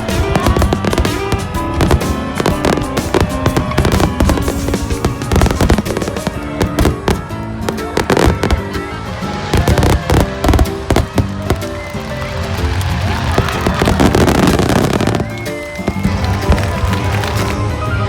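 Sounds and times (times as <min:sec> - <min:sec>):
fireworks bursting: 0:00.0 - 0:17.8
music with sustained notes: 0:00.0 - 0:18.0.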